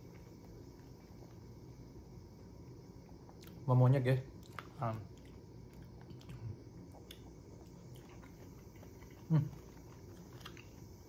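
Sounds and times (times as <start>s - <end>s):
soft chewing: 0.0s - 1.8s, 3.0s - 3.7s, 4.3s - 11.0s.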